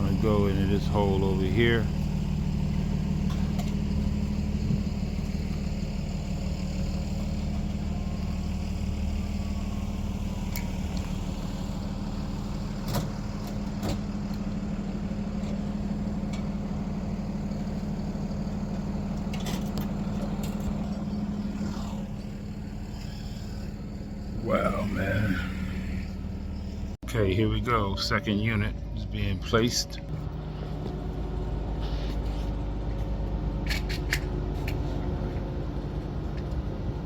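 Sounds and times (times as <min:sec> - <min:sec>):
crane engine running: 0:00.0 - 0:37.0.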